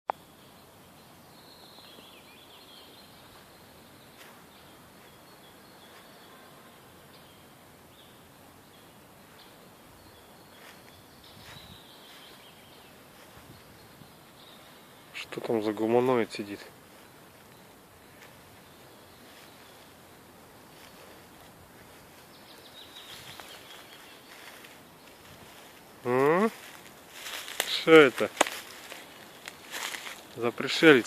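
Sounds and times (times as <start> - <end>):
distant bird chirps: 0.1 - 31.0
steady outdoor hiss: 0.1 - 31.0.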